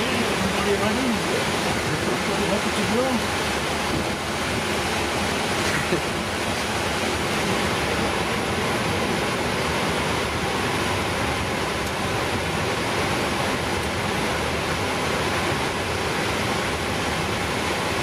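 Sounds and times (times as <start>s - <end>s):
air-conditioning airflow rush: 0.0s - 18.0s
jet engines idling: 0.0s - 18.0s.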